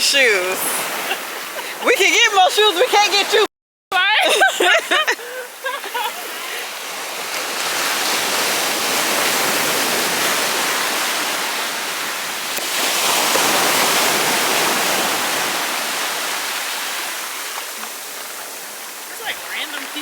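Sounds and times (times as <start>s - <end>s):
rushing water at shore: 0.0s - 20.0s.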